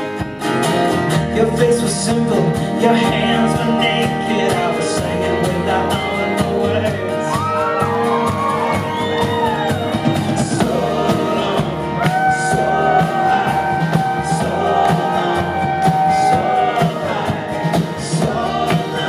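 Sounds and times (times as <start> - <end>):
electric guitar: 0.0 - 19.0
strummed acoustic guitar: 0.0 - 19.0
upright bass: 0.0 - 19.0
wordless sung vocals: 1.2 - 7.7, 10.2 - 19.0.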